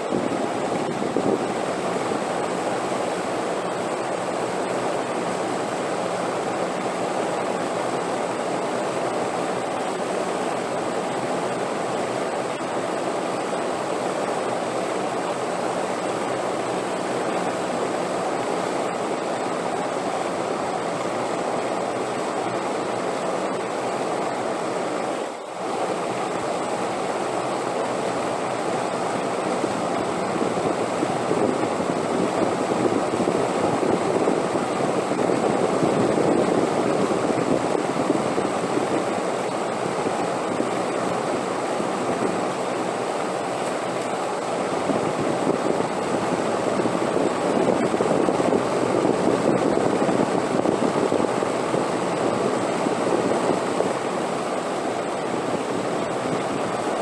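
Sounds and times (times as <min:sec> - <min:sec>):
rushing wind: 0:00.0 - 0:24.8, 0:26.0 - 0:57.0.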